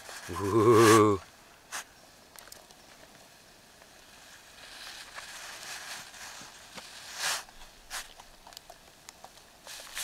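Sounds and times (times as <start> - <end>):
soft hiss with small clicks: 1.2 - 10.0.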